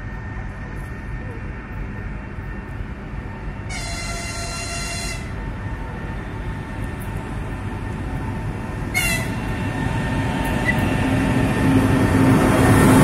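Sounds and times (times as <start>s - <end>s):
electric locomotive rumble: 0.0s - 13.0s.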